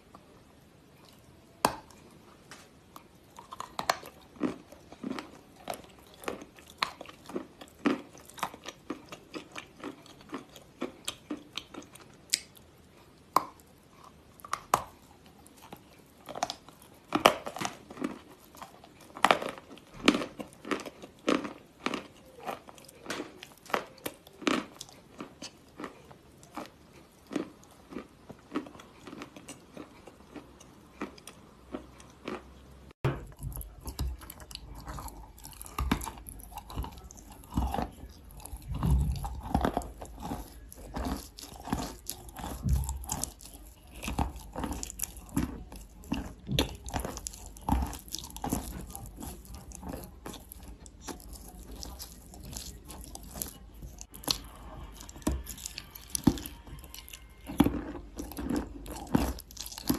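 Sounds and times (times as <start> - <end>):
soft chewing: 0.0 - 59.9.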